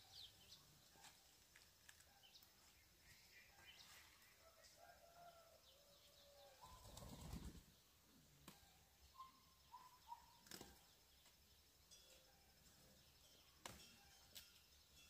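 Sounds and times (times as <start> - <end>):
faint bird chirps: 1.9 - 7.7, 8.4 - 15.0.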